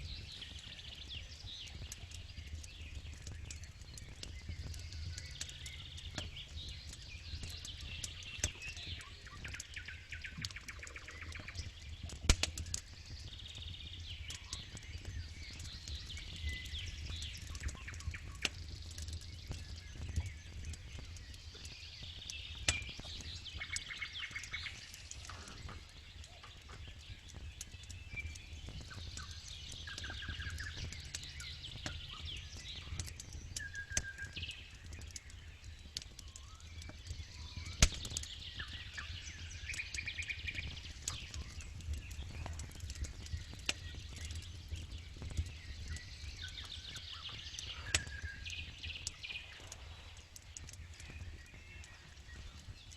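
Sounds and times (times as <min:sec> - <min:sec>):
campfire crackling and popping: 0:00.0 - 0:52.9
small birds chirping: 0:00.0 - 0:52.9.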